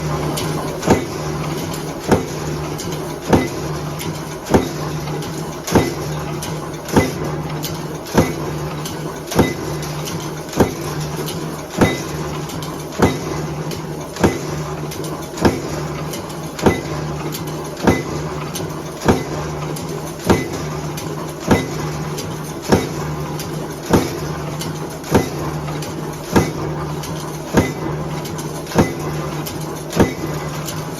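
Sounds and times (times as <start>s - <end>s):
motor hum: 0.0s - 30.9s
stamping press striking: 0.0s - 30.9s.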